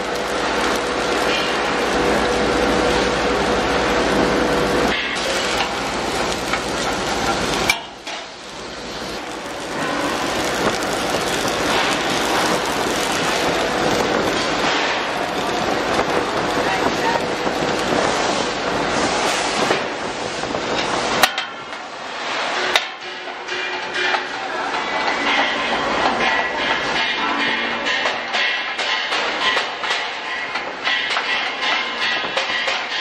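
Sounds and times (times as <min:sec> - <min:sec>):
factory machinery clattering: 0:00.0 - 0:33.0.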